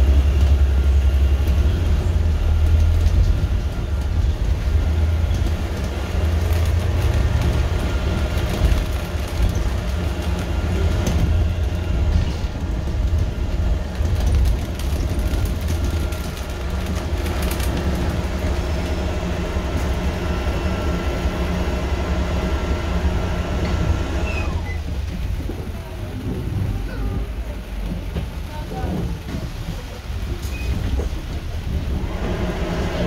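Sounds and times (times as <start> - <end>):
bus engine and road rumble: 0.0 - 33.0
rattles and clicks from bus: 0.0 - 33.0.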